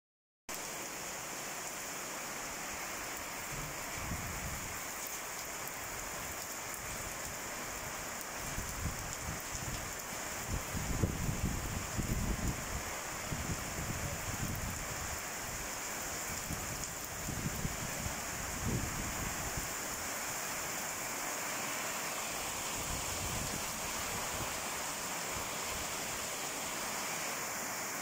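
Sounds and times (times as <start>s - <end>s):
heavy rain falling: 0.5s - 28.0s.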